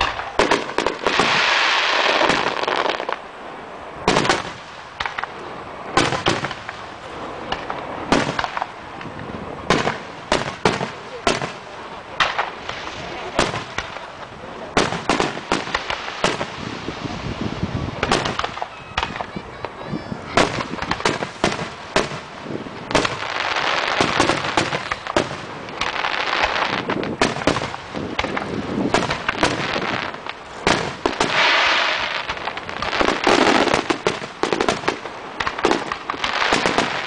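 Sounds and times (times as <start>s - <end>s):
fireworks bangs: 0.0s - 3.3s, 4.0s - 37.0s
dense crackling hiss: 0.0s - 37.0s.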